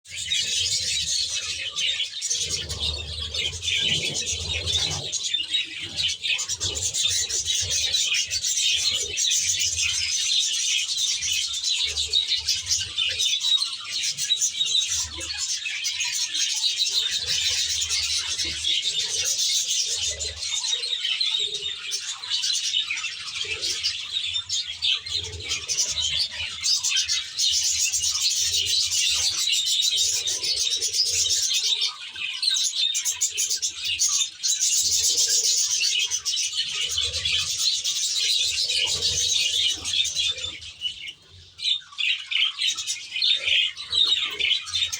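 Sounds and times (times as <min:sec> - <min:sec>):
budgerigars chattering: 0:00.1 - 0:44.9.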